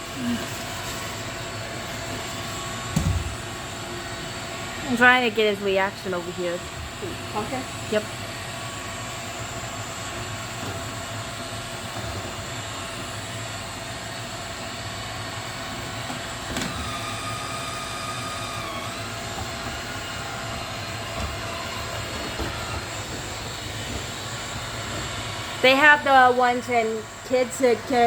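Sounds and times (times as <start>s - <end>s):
robot vacuum whirring: 0.2s - 28.0s.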